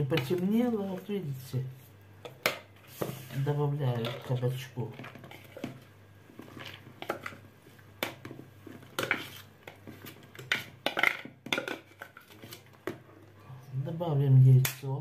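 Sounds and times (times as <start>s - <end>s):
plastic bowls knocking and scraping: 0.0s - 1.2s, 2.2s - 13.4s.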